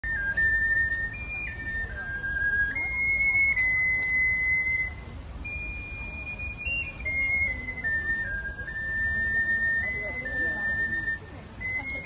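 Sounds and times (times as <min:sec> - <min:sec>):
ocarina melody: 0:00.0 - 0:12.0.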